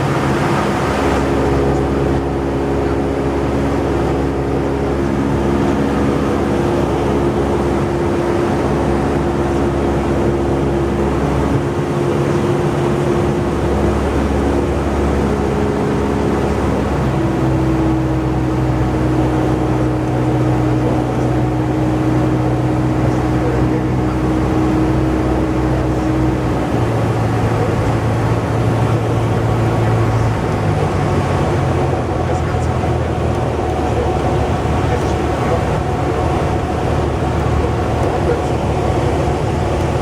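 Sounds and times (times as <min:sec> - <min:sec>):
airplane engine and propeller: 0:00.0 - 0:40.0.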